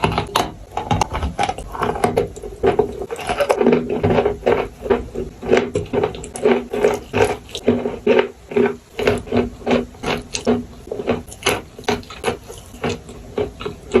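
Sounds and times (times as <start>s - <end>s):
chewing and crunching chalk: 0.0s - 14.0s.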